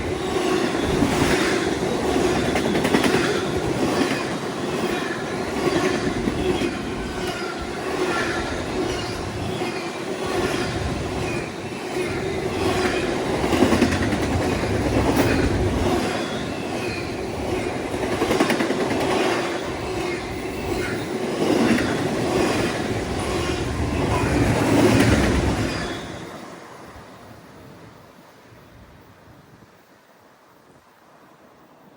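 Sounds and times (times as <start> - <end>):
wheels clicking over rail joints: 0.0 - 26.0
rumble of steel wheels on rail: 0.0 - 29.9.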